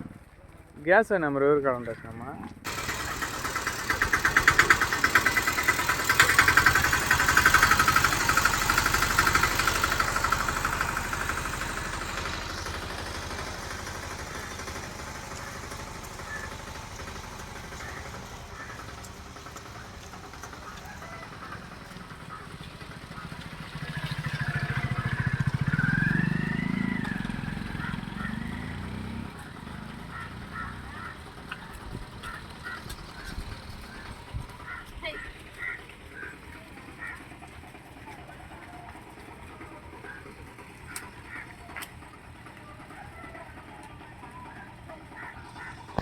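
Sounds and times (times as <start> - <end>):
small engine running: 2.6 - 46.0.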